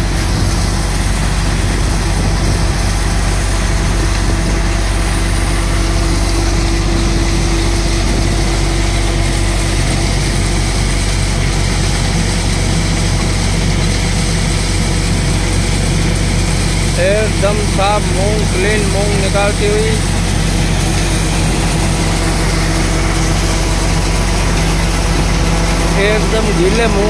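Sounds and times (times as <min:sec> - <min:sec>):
thresher mechanical hum: 0:00.0 - 0:27.0
threshing drum rushing noise: 0:00.0 - 0:27.0.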